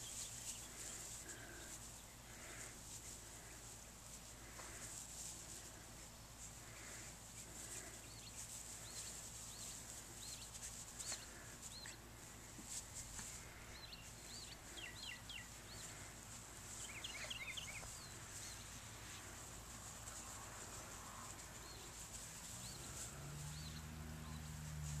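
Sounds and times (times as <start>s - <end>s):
birds chirping: 0.0s - 24.6s
steady high hiss: 0.0s - 25.0s.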